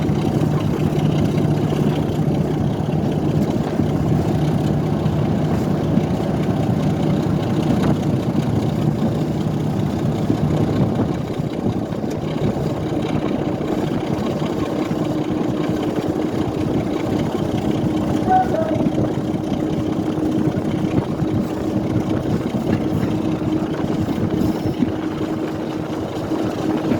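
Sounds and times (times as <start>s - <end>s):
diesel railway engine droning: 0.0s - 26.9s.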